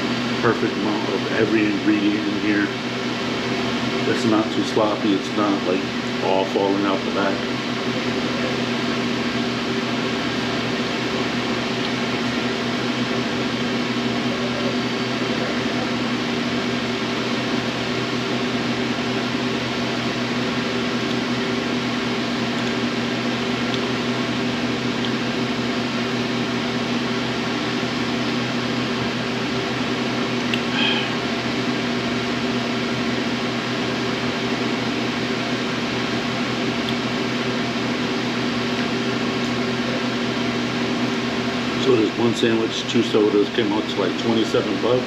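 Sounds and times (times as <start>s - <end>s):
fan humming: 0.0s - 45.0s.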